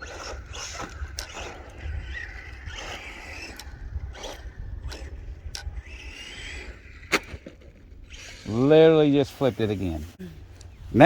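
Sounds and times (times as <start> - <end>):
electric motor whine: 0.0 - 11.0
tyres scrabbling on dirt: 0.0 - 11.0.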